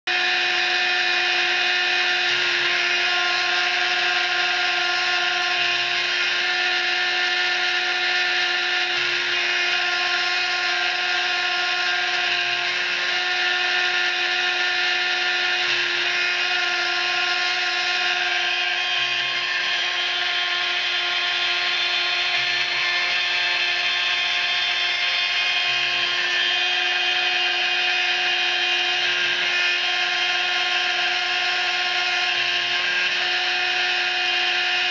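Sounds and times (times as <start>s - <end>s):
milling machine spindle whine: 0.1s - 34.9s.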